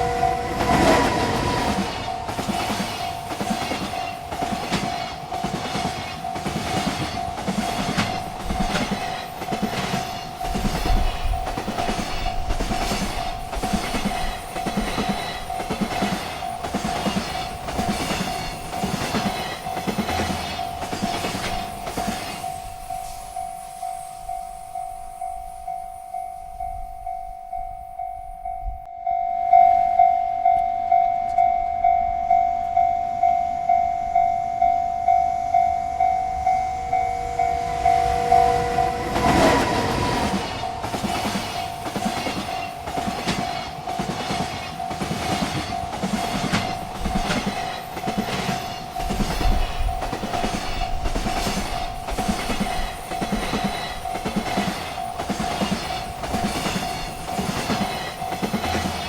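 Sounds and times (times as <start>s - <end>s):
freight train wheels clattering: 0.0s - 25.4s, 36.0s - 59.0s
railroad crossing bell ringing: 0.0s - 59.0s.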